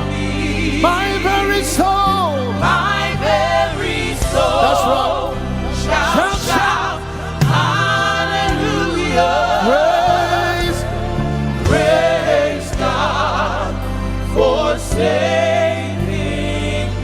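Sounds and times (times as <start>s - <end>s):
choir singing: 0.0s - 17.0s
lead voice singing: 0.0s - 17.0s.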